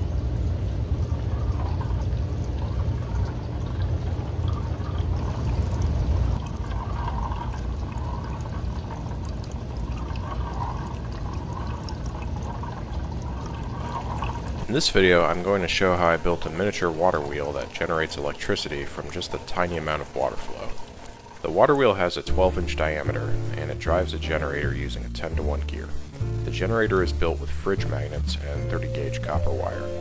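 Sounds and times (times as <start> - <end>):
water splashing onto waterwheel: 0.8 - 30.0.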